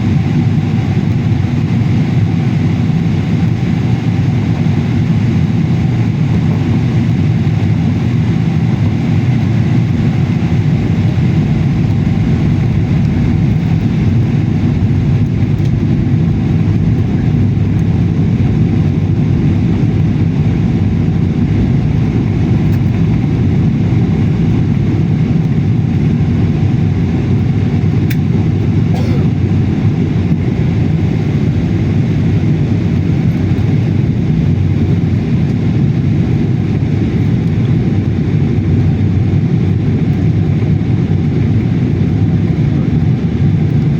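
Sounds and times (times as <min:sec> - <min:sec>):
airliner engines rumbling: 0:00.0 - 0:43.9.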